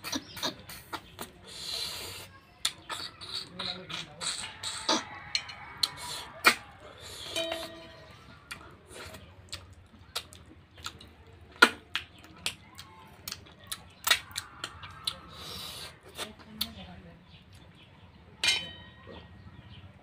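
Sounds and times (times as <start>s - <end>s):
chewing: 0.0s - 17.8s.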